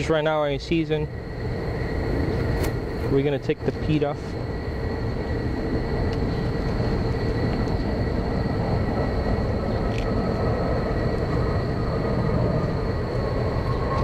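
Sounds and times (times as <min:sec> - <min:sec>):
machinery drone with low rumble: 0:00.0 - 0:14.0.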